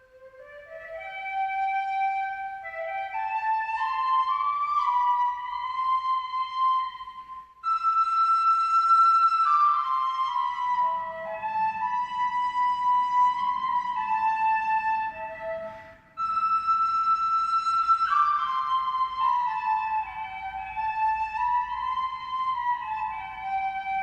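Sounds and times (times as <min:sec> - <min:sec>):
faint low accompaniment: 0:00.0 - 0:24.0.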